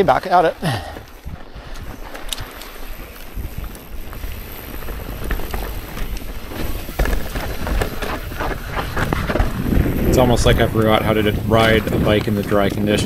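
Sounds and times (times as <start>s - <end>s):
bike clicks and knocks: 0.0s - 13.0s
bike tyres on dirt and rocks: 0.0s - 13.0s
wind on microphone: 1.0s - 13.0s.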